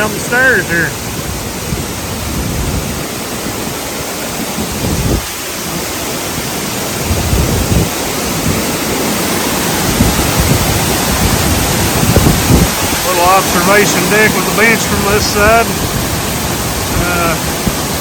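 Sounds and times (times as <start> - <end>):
waterfall rushing: 0.0 - 18.0
wind buffeting microphone: 0.0 - 18.0.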